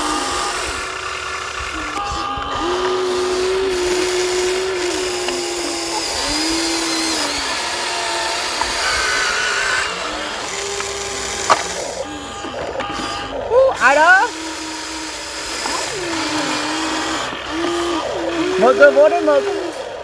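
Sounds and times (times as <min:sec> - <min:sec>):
toy electric motor whining: 0:00.0 - 0:20.0.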